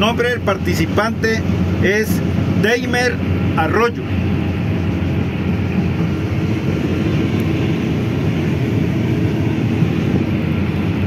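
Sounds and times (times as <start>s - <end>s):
harvester machine running: 0.0s - 11.0s.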